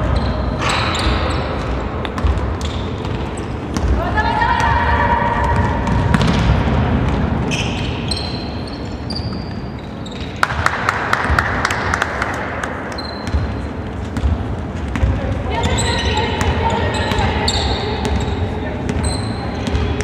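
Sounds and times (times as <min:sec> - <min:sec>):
sneakers squeaking: 0:00.0 - 0:10.5, 0:12.8 - 0:20.0.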